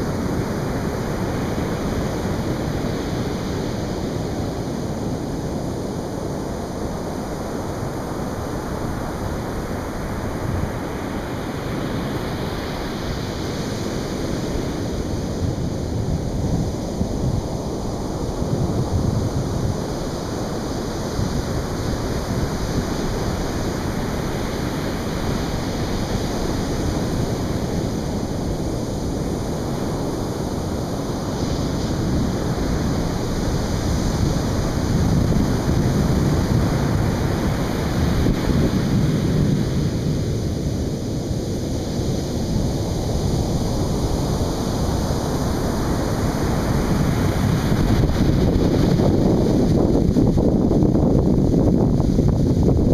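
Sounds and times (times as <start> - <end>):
surf breaking on a beach: 0.0 - 52.9
wind buffeting the microphone: 0.0 - 52.9.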